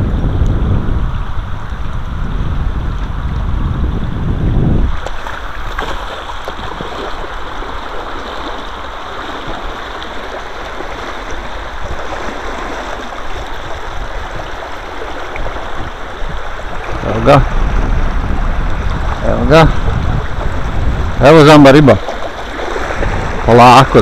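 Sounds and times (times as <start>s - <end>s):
rain falling on river: 0.0s - 24.0s
wind buffeting microphone: 0.0s - 24.0s.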